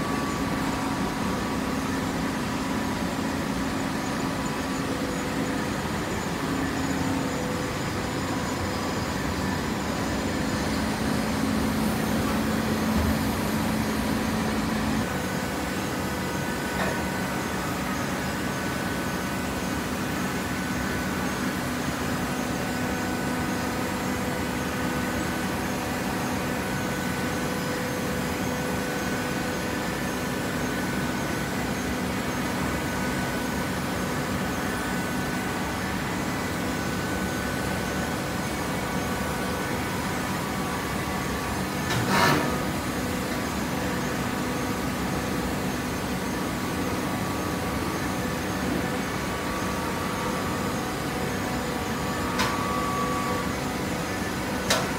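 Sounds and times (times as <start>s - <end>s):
motor and pump humming: 0.0s - 54.9s.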